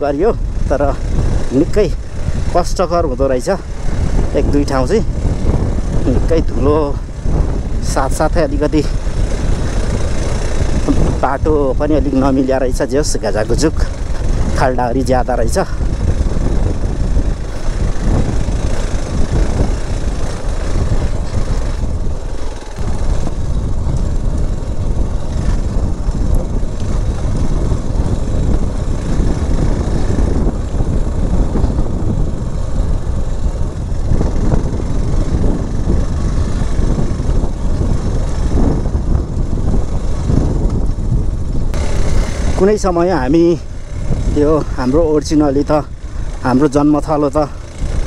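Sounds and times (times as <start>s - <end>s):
motorcycle engine running: 0.0s - 48.0s
wind noise on microphone: 0.0s - 48.0s.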